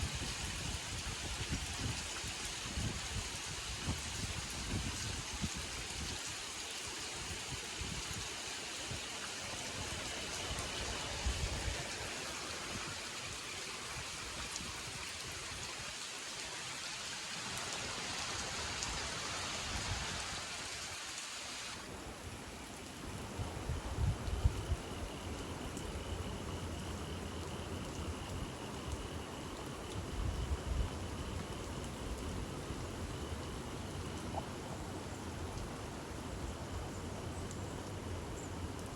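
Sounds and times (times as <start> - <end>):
faint high insect-like tone: 0.0 - 38.9
steady rain hiss: 0.0 - 38.9.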